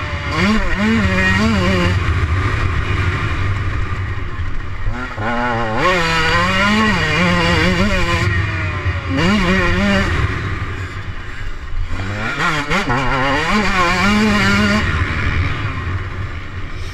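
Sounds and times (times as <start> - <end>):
motocross bike engine revving: 0.0 - 16.9.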